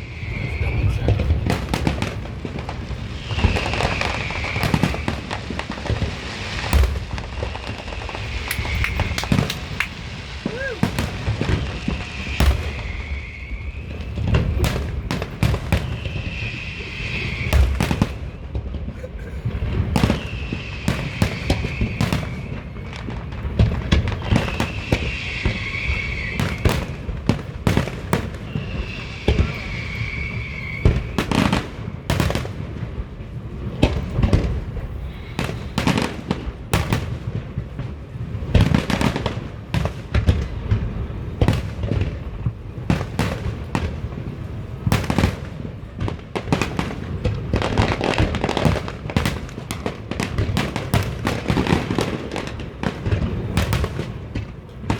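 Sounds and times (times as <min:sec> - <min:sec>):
deep fireworks booms: 0:00.0 - 0:54.9
fireworks bangs and crackling: 0:00.0 - 0:54.9.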